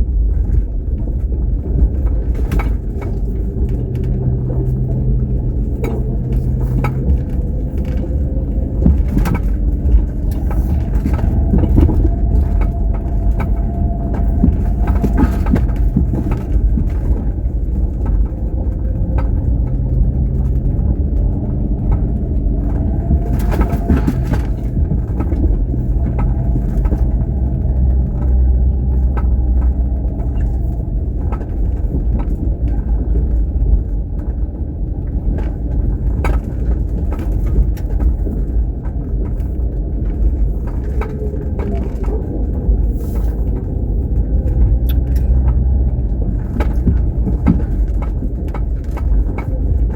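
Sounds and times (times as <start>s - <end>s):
vehicle engine and road rumble: 0.0s - 49.9s
small clicks and knocks: 0.4s - 49.9s.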